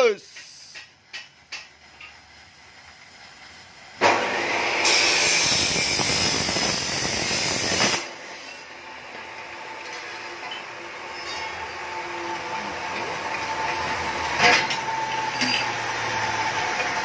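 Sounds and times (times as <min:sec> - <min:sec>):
arc welding crackling: 0:00.0 - 0:04.1, 0:04.8 - 0:17.0.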